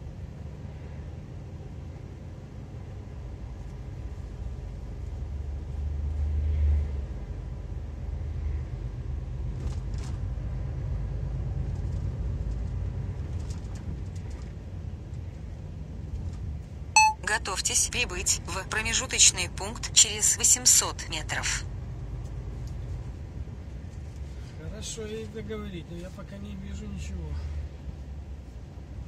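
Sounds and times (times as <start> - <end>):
truck engine and road rumble: 0.0 - 29.0.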